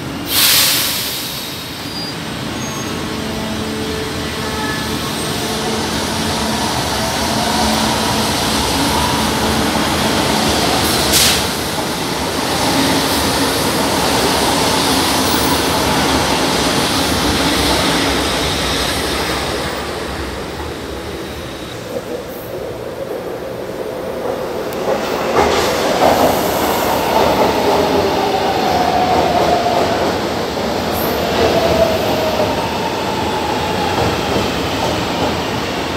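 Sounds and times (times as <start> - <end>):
train wheel and running noise: 3.3 - 35.9.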